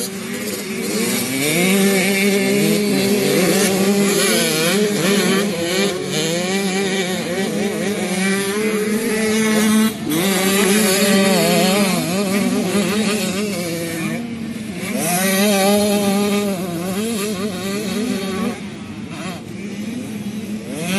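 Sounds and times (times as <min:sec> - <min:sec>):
motocross bikes revving: 0:00.0 - 0:20.9.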